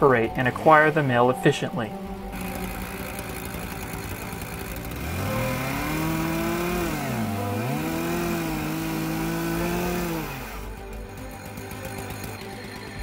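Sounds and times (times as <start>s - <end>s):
chainsaw cutting wood at high speed: 2.2s - 13.0s.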